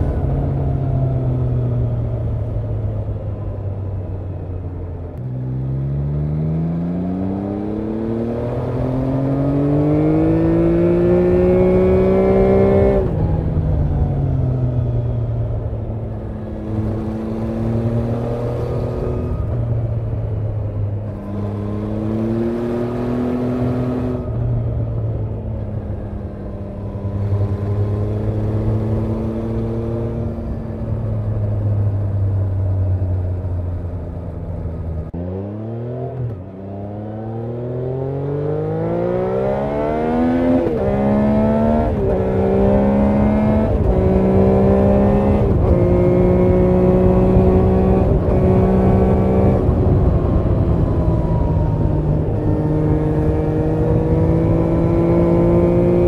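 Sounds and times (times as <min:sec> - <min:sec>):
motorcycle engine and exhaust: 0:00.0 - 0:56.0.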